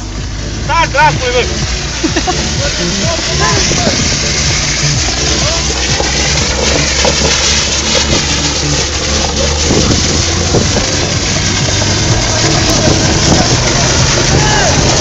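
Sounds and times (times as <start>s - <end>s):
car engine running: 0.0s - 15.0s
music from car stereo: 0.0s - 15.0s
tyre noise: 0.0s - 15.0s
wind rushing: 0.0s - 15.0s.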